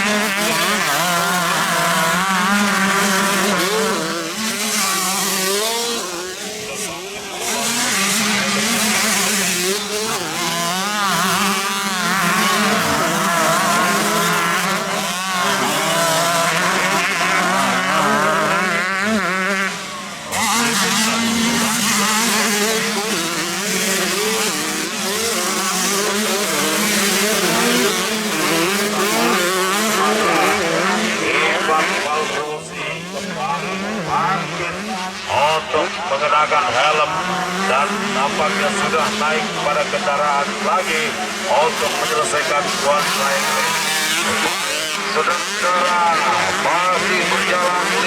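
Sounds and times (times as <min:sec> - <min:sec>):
motocross bikes revving: 0:00.0 - 0:48.0.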